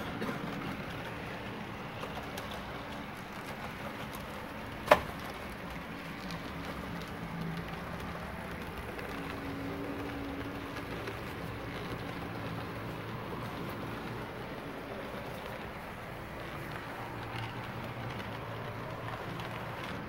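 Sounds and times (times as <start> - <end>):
model train rolling rumble: 0.0 - 20.0.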